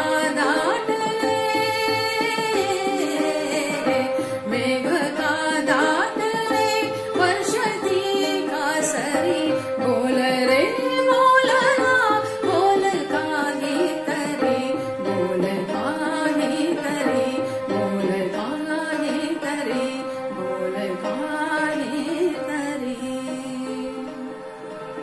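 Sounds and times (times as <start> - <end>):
woman singing: 0.0 - 25.0.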